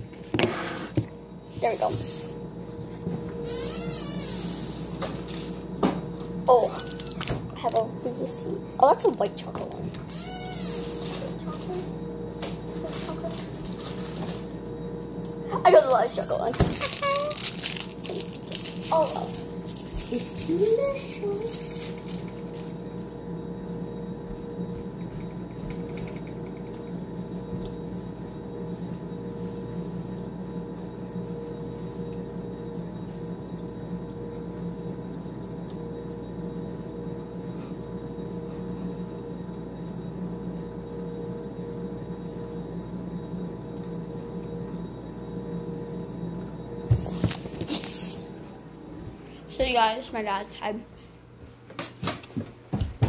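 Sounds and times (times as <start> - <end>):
steady electric hum: 0.0 - 53.0.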